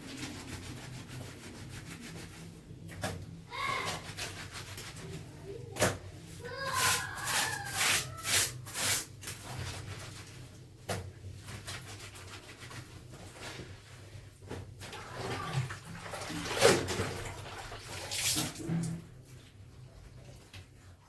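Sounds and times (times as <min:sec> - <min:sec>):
wet fabric sloshing in water: 0:00.0 - 0:21.0.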